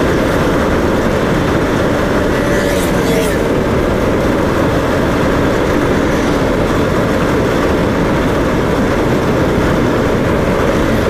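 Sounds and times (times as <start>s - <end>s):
road noise: 0.0s - 11.0s
vehicle engine: 0.0s - 11.0s
wind on microphone: 0.0s - 11.0s.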